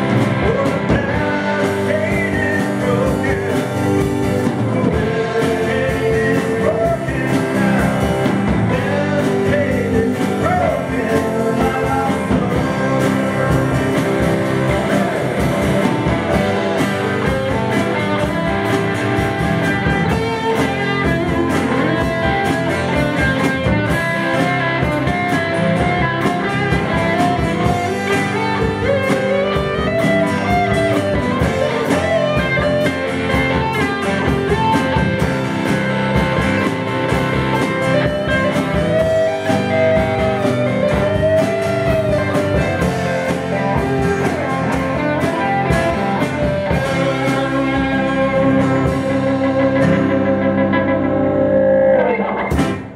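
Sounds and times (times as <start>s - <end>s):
acoustic guitar: 0.0s - 52.9s
bass guitar: 0.0s - 52.9s
drum kit: 0.0s - 52.9s
electric guitar: 0.0s - 52.9s.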